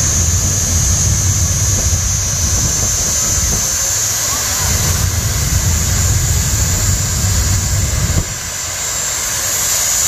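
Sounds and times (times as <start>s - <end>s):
jet engines on afterburner: 0.0s - 10.0s.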